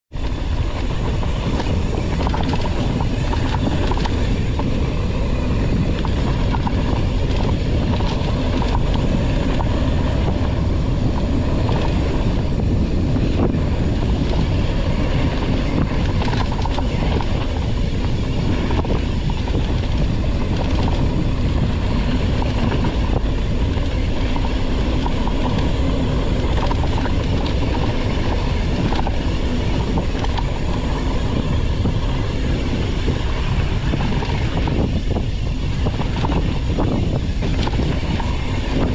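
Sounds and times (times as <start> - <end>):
bike rattling and clicking: 0.1 - 38.9
bike tyre noise on dirt: 0.1 - 38.9
wind rushing: 0.1 - 38.9.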